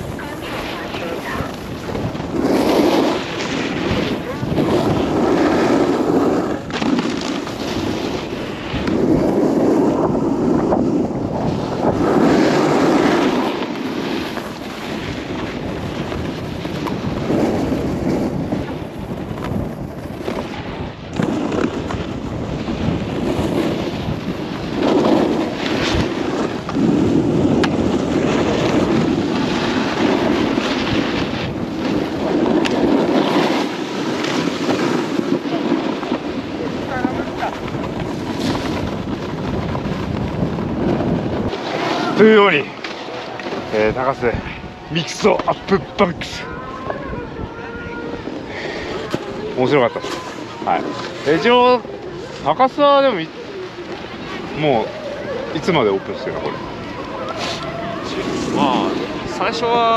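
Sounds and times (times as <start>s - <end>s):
snowboard scraping over snow: 0.0s - 59.9s
wind buffeting microphone: 0.0s - 59.9s.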